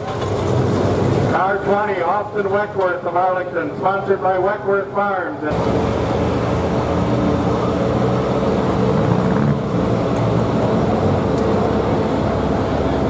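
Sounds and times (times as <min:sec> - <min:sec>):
skid steer engine running: 0:00.0 - 0:04.0, 0:05.5 - 0:13.0.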